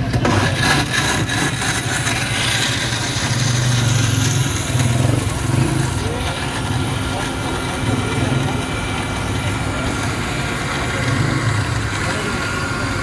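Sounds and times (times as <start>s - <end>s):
blender running with ice: 0.0s - 13.0s.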